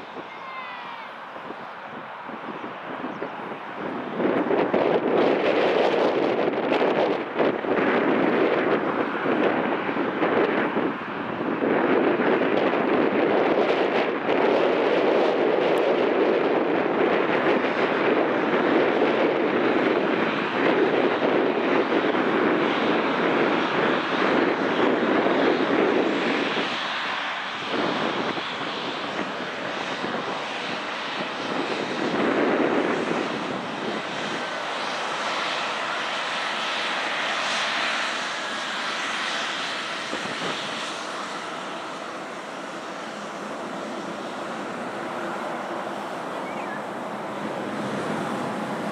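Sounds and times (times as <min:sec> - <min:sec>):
airliner engines passing by: 0:00.0 - 0:48.9.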